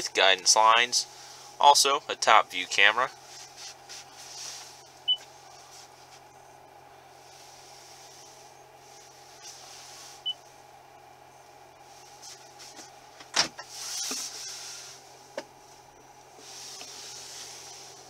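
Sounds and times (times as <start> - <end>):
low cabin hum: 0.0 - 18.0.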